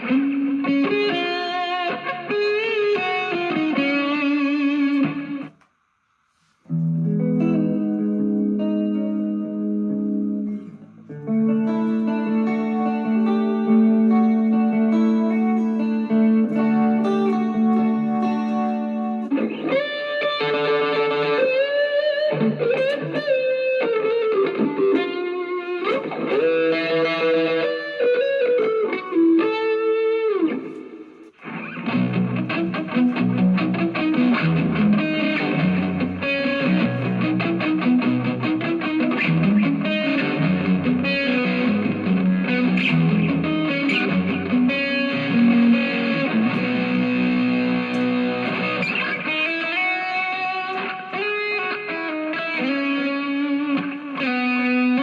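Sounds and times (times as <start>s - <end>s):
distorted electric guitar: 0.0s - 5.8s, 6.4s - 55.0s.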